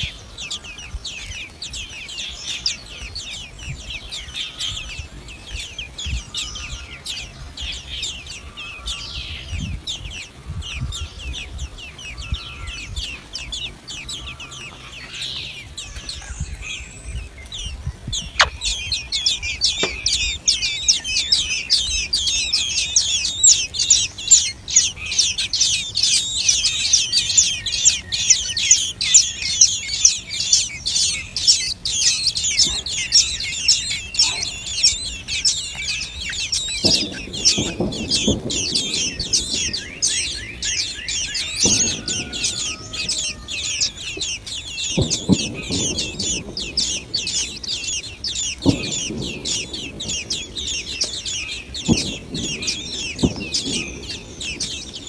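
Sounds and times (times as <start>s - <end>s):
nestlings cheeping: 0.0s - 55.0s.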